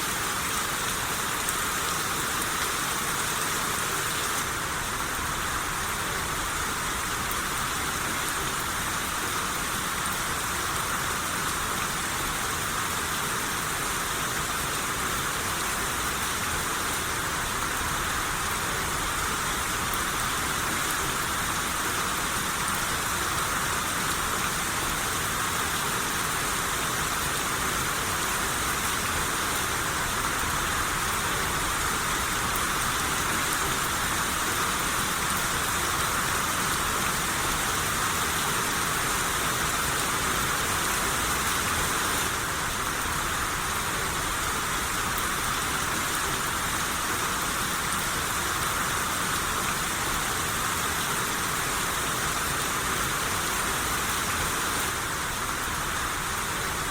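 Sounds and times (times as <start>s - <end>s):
rain hissing: 0.0s - 56.9s.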